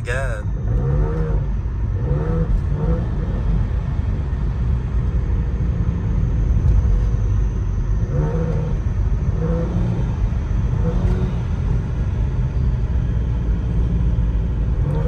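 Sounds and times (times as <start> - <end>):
car exhaust rumble: 0.0 - 15.0.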